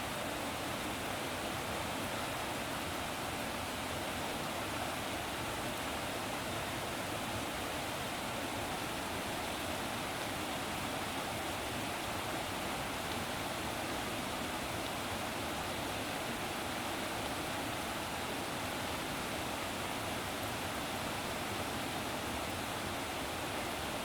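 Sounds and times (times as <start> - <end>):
rushing flowing water: 0.0 - 24.0.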